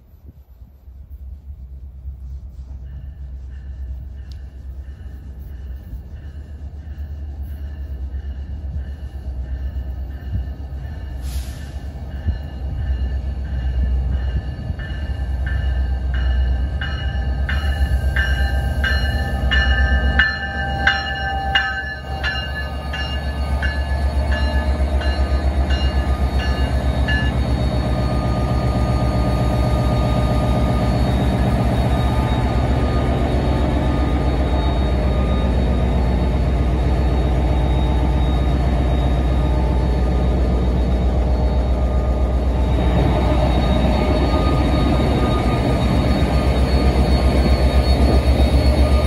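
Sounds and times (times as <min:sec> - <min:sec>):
diesel locomotive engine running: 0:00.0 - 0:49.0
train wheels rolling past: 0:00.0 - 0:49.0
locomotive bell ringing: 0:03.0 - 0:49.0.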